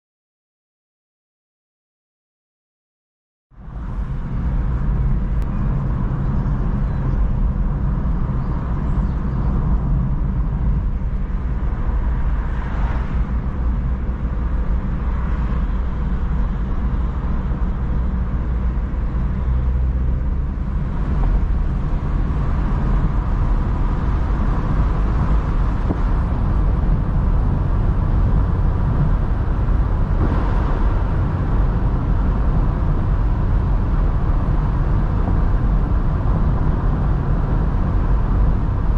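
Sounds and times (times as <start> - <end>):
car engine cruising: 3.6 - 38.9
wind noise: 3.6 - 38.9.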